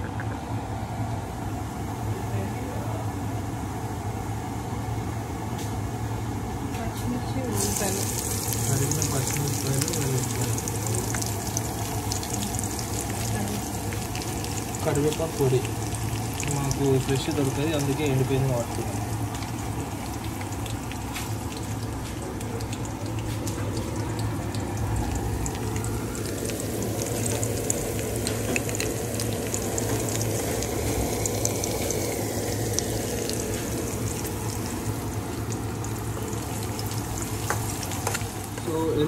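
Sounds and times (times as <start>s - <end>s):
low steady hum: 0.0s - 39.0s
garlic sizzling in hot oil: 7.4s - 39.0s.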